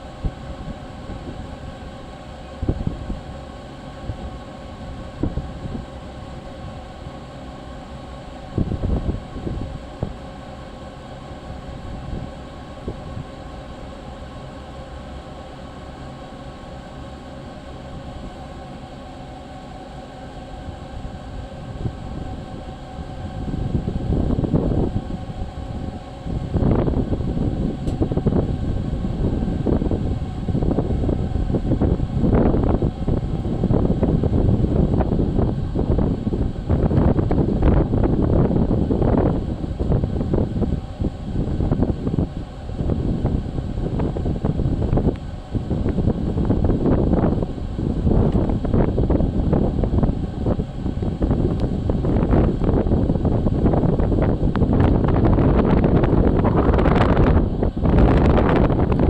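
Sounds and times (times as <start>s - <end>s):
wind buffeting microphone: 0.0s - 7.7s, 8.3s - 13.7s, 20.5s - 59.0s
mechanical hum: 0.0s - 59.0s.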